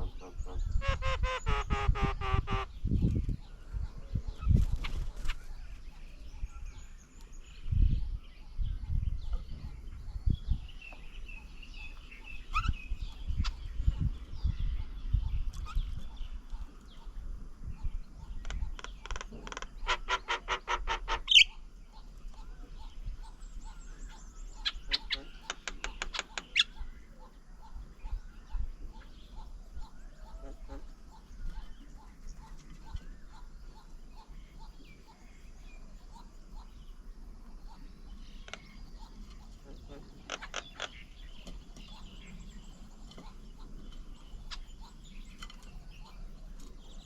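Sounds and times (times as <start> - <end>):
birds chattering: 0.0 - 47.0.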